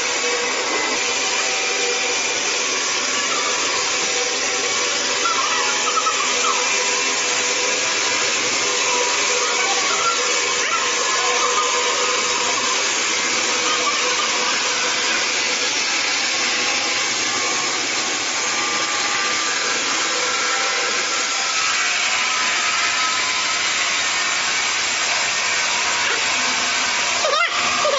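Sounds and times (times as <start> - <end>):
band saw cutting log: 0.0 - 27.9.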